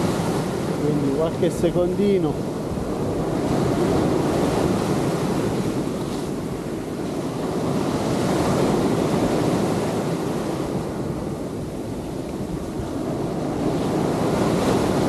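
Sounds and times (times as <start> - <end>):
sea waves breaking ashore: 0.0 - 15.0
wind buffeting microphone: 0.0 - 15.0.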